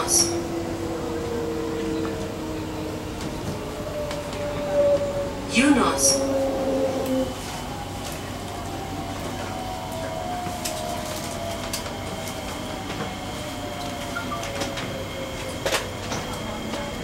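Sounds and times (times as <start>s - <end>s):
train car hum with whine: 0.0s - 17.0s.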